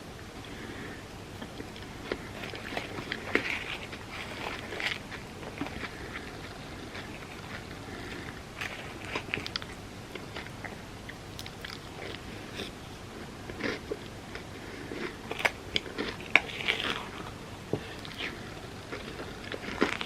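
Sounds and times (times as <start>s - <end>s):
crunching and chewing: 0.4s - 20.0s.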